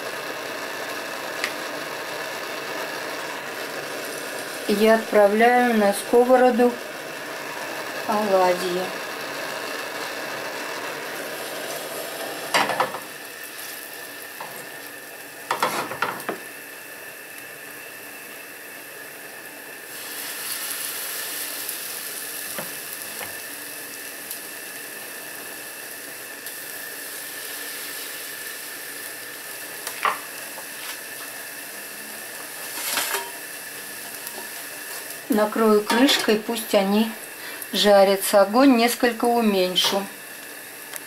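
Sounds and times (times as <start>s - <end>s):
batter sizzling in oil: 0.0s - 41.0s.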